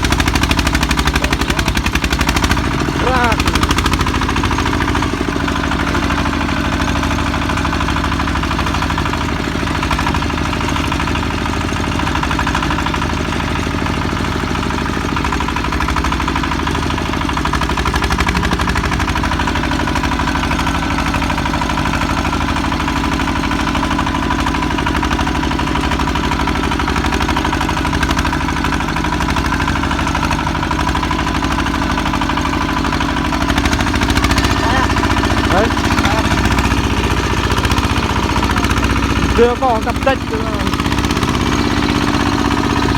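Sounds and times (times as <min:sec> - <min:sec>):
single-cylinder diesel engine running: 0:00.0 - 0:42.9.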